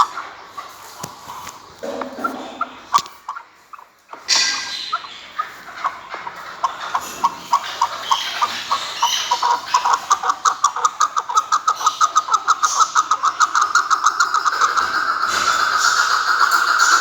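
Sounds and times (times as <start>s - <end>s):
partridge clucking call: 0.0s - 17.0s.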